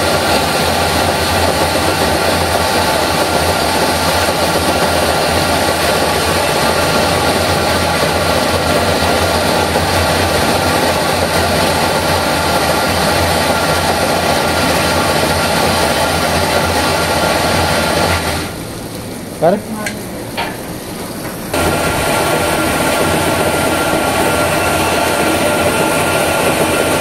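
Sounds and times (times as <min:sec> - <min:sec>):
washing machine running: 0:00.0 - 0:27.0.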